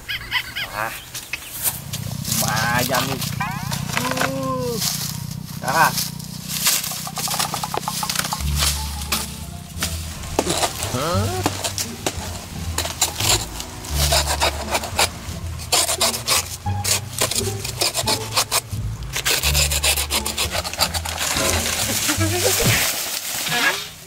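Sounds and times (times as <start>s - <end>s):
sickle hacking plant trunk: 1.6s - 24.0s.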